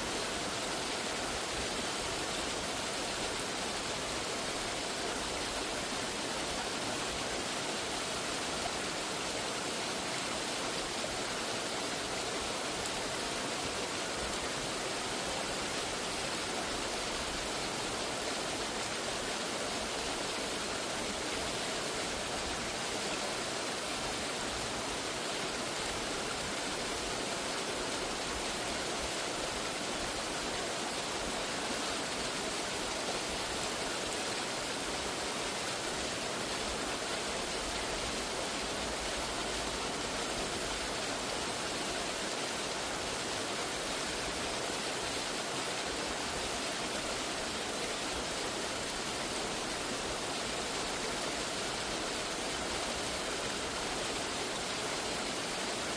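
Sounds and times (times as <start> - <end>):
water rushing: 0.0 - 55.9.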